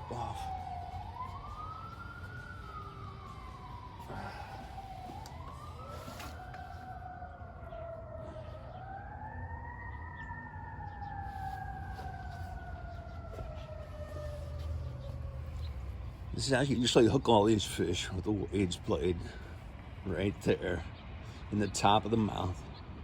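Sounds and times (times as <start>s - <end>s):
siren wailing: 0.0s - 19.4s.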